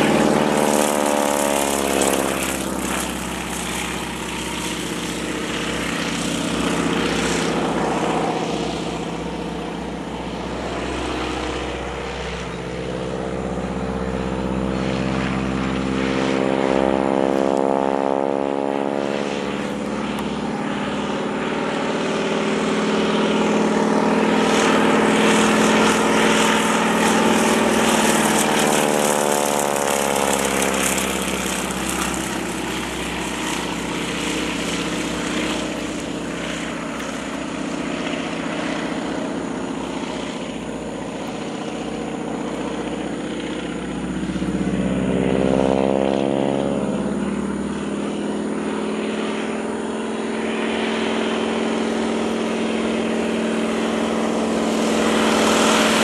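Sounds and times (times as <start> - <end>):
biplane engine and propeller droning: 0.0 - 56.0.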